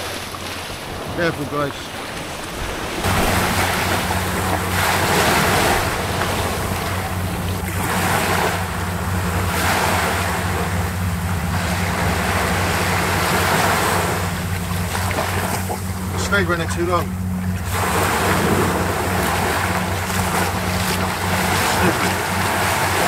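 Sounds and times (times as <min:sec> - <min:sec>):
sea waves breaking on shore: 0:00.0 - 0:23.0
wind buffeting microphone: 0:00.0 - 0:23.0.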